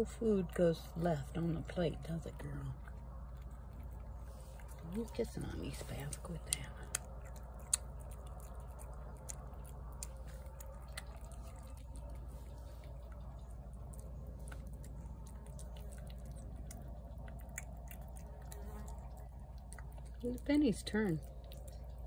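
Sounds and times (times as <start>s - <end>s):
cat chewing and lapping: 0.0s - 22.0s
low steady background hum: 0.0s - 22.0s.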